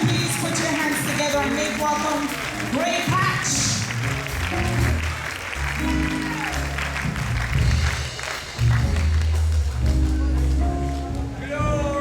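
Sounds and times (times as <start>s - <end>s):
crowd applauding: 0.0s - 12.0s
music with deep bass: 2.4s - 12.0s.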